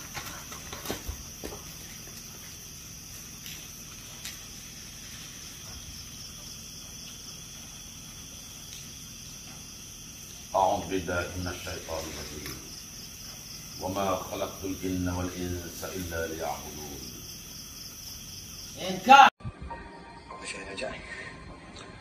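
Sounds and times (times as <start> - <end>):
constant hiss: 0.0 - 22.0.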